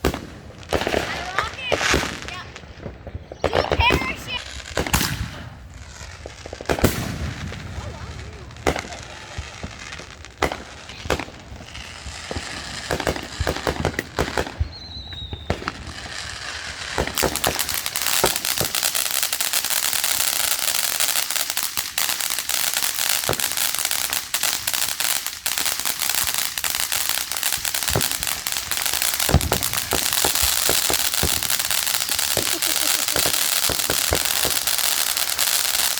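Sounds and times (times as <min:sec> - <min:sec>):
dense firework crackling: 0:00.0 - 0:35.9
firework bangs and pops: 0:00.0 - 0:35.9.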